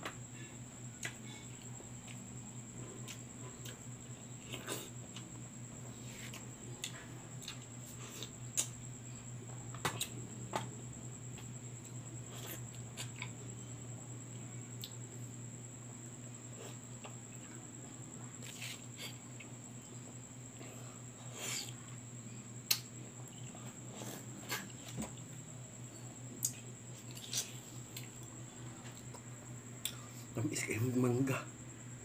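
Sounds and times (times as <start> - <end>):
background hum: 0.0 - 32.0.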